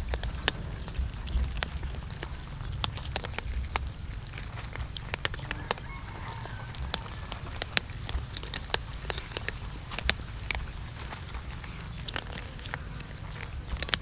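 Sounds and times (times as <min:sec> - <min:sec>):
cats crunching dry kibble: 0:00.0 - 0:14.0
low steady rumble: 0:00.0 - 0:14.0.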